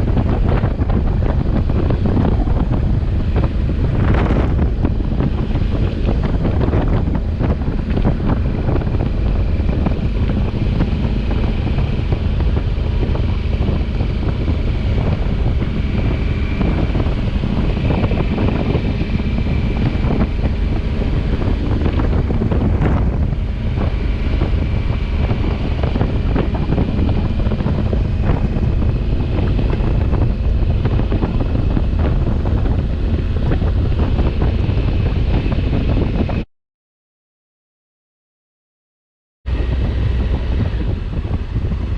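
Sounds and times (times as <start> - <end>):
motorcycle engine running: 0.0 - 36.4, 39.5 - 41.9
wind rushing on microphone: 0.0 - 36.5, 39.5 - 41.9.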